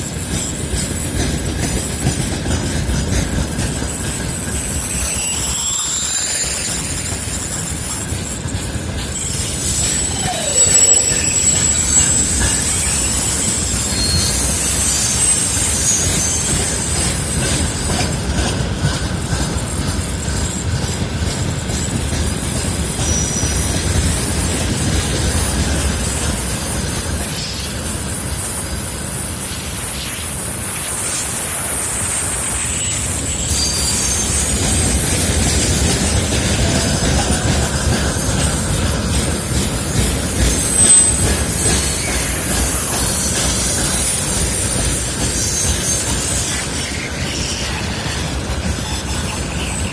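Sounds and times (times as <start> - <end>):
train wheels squealing: 0.0 - 49.9
wheels rumbling on rail: 0.0 - 49.9.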